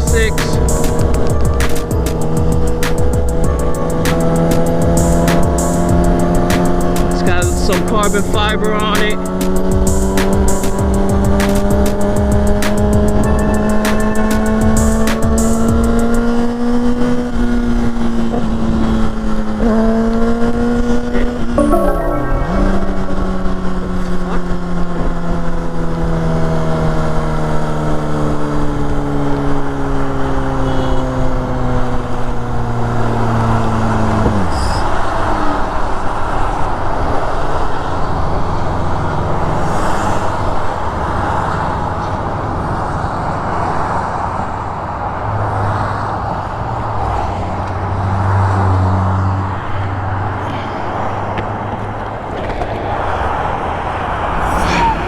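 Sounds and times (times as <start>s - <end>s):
wind and road noise: 0.0s - 21.6s, 23.3s - 55.0s.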